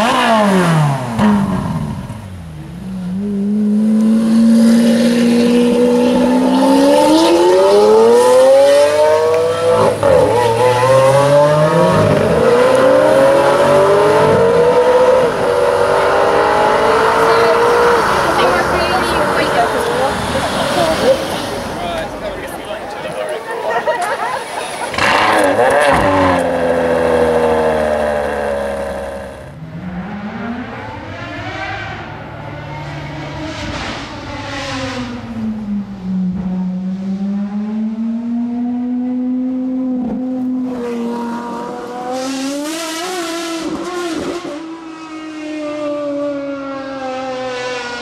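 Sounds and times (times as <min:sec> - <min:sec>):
supercar engine revving: 0:00.0 - 0:22.9, 0:24.4 - 0:48.0
car engine revving: 0:00.0 - 0:23.3, 0:24.0 - 0:48.0.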